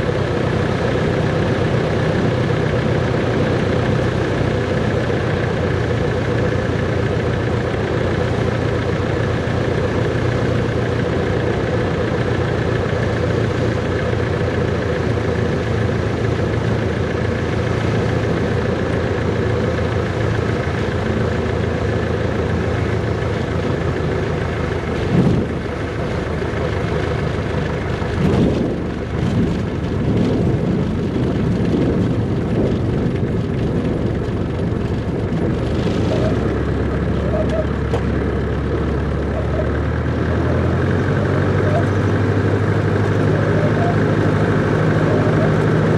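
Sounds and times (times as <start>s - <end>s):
piston aircraft engine running: 0.0s - 45.9s.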